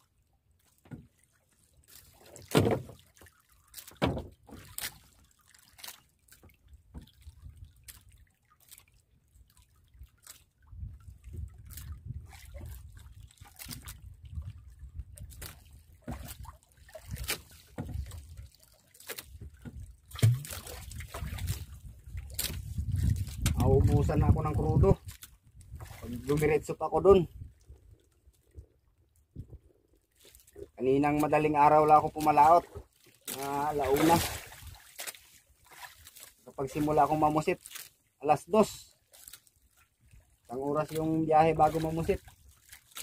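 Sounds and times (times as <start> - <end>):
water sloshing against hull: 0.0 - 43.0.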